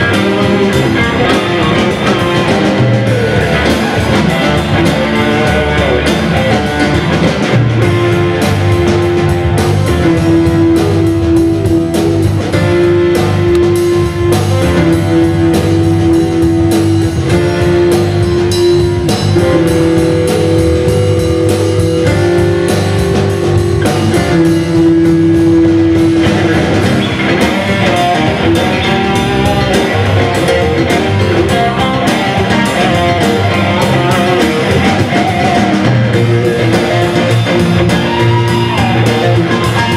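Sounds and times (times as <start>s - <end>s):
electric guitar solo: 0.0s - 39.9s
live blues-rock band: 0.0s - 39.9s.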